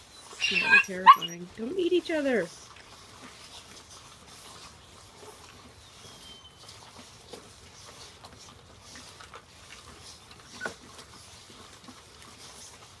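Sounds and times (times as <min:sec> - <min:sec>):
puppies chewing and gnawing: 0:00.0 - 0:13.0.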